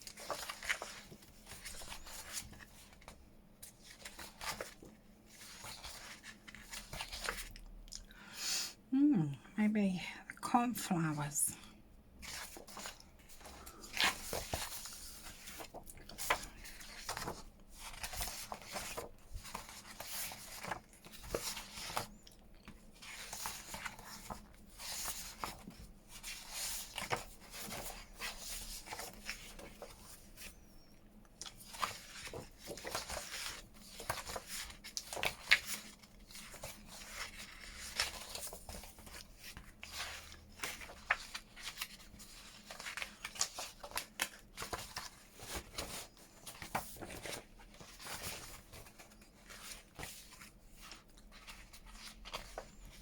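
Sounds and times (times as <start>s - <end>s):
paper rustling: 0.0s - 7.6s, 12.2s - 30.6s, 31.4s - 53.0s.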